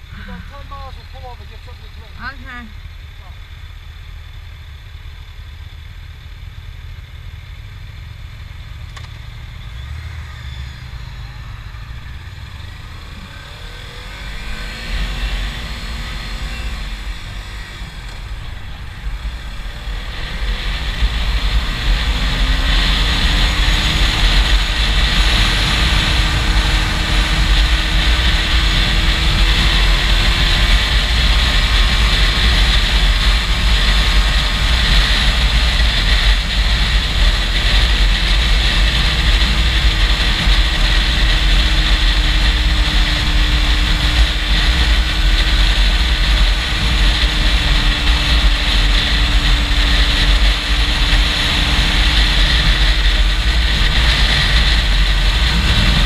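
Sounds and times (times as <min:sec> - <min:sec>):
motorcycle engine accelerating: 0:00.0 - 0:56.0
wind rushing over microphone: 0:11.0 - 0:56.0.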